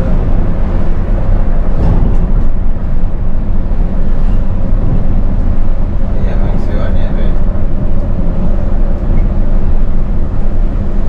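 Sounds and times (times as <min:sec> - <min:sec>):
bus diesel engine rumble: 0:00.0 - 0:11.0.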